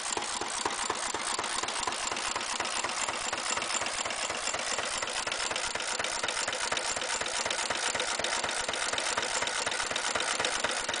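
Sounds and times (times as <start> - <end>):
stationary petrol engine running: 0.0 - 11.0.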